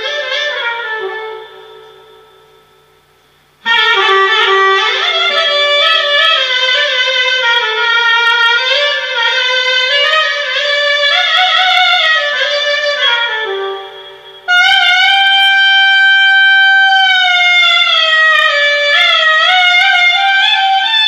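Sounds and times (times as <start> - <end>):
solo clarinet improvising: 0.0 - 2.0, 3.6 - 21.0.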